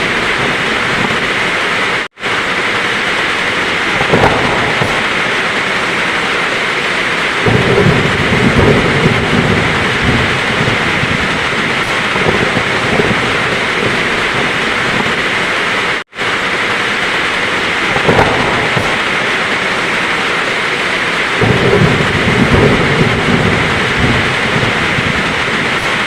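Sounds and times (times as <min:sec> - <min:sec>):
heavy rain: 0:00.0 - 0:26.0
low roll of thunder: 0:00.0 - 0:26.0.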